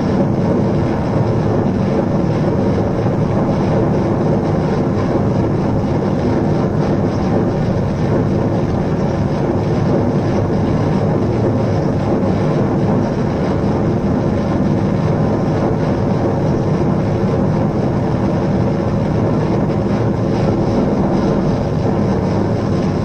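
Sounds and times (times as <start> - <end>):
low electronic drone: 0.0 - 23.0.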